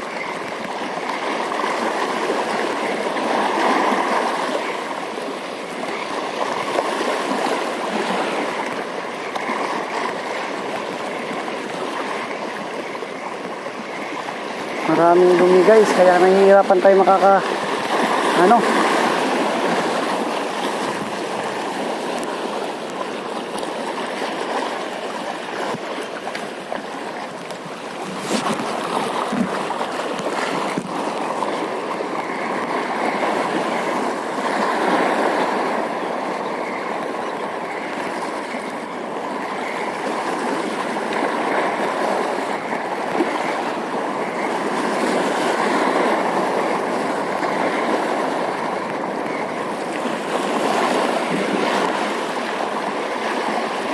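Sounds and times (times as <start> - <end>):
sea water lapping at shore: 0.0 - 53.9.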